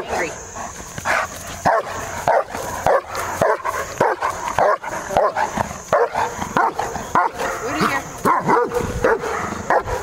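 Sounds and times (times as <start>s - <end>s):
dog barking hard and fast: 1.1s - 10.0s.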